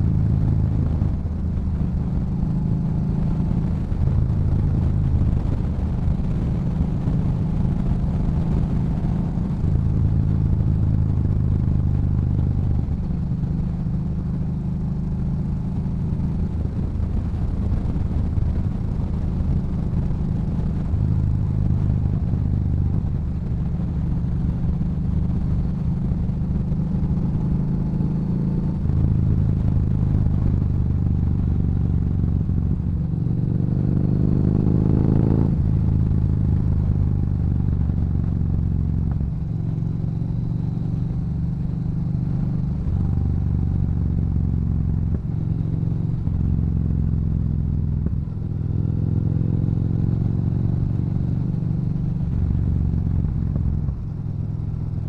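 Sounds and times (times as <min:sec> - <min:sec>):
motorcycle exhaust note: 0:00.0 - 0:55.0.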